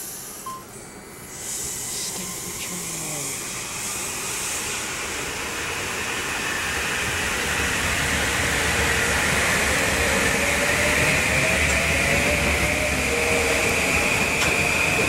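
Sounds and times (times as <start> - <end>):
faint train whine: 0.0 - 15.0
train rushing past: 0.0 - 15.0.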